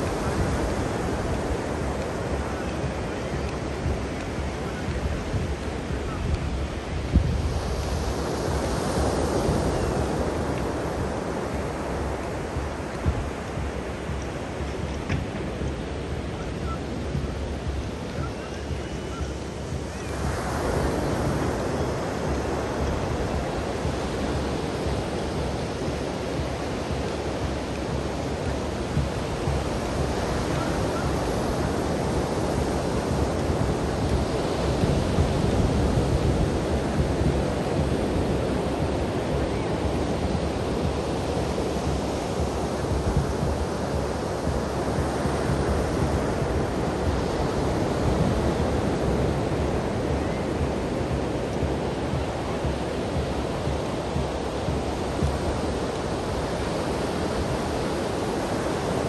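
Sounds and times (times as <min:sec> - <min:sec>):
waves washing up a beach: 0:00.0 - 0:59.0.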